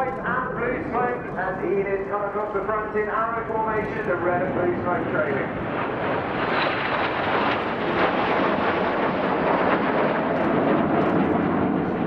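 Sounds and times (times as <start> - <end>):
jet engines passing: 0.0 - 12.0.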